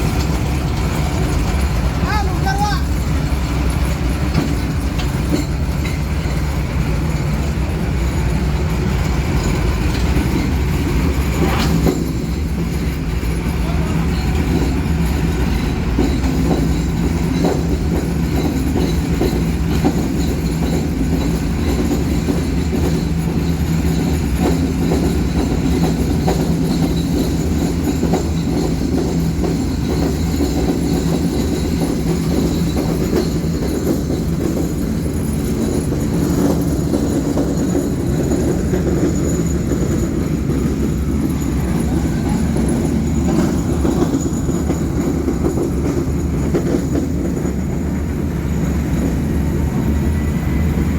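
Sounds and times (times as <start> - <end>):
grinding mill rumbling: 0.0 - 50.9.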